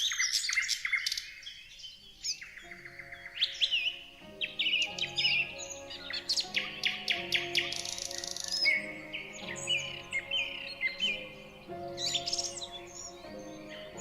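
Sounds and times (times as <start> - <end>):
songbirds chirping and trilling: 0.0 - 14.0
soft background music: 0.1 - 14.0.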